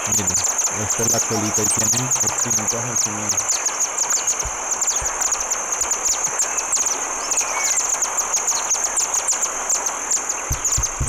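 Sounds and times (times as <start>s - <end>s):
high insect trill: 0.0s - 11.0s
swifts twittering high chips: 0.0s - 11.0s.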